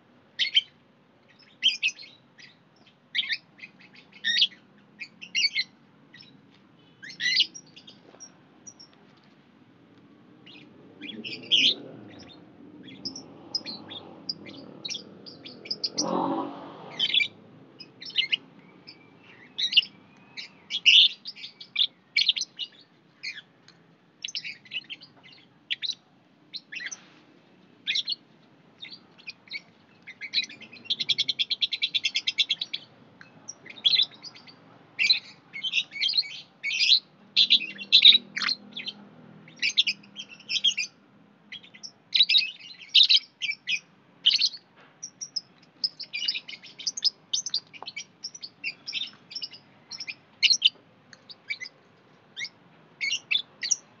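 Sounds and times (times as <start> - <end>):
birds chirping and squeaking: 0.4 - 0.7, 1.3 - 9.0, 10.4 - 23.5, 24.2 - 27.1, 27.8 - 28.2, 28.8 - 54.0.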